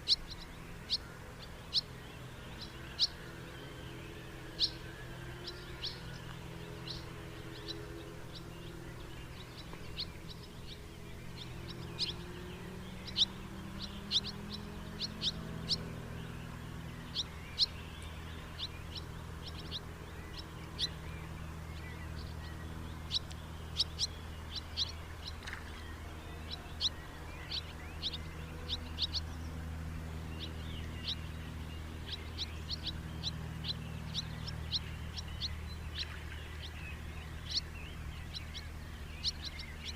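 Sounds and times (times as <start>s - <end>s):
birds chirping: 0.0s - 39.9s
low steady hum: 0.0s - 39.9s.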